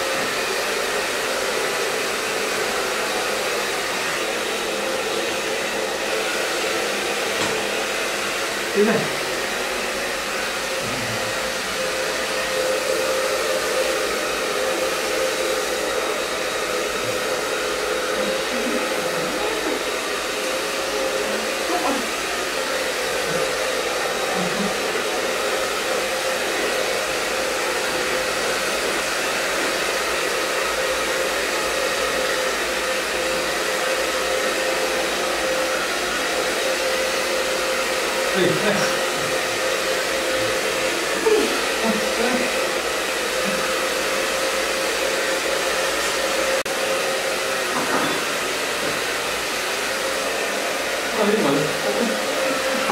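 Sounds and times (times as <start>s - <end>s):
hair dryer running: 0.0s - 52.9s.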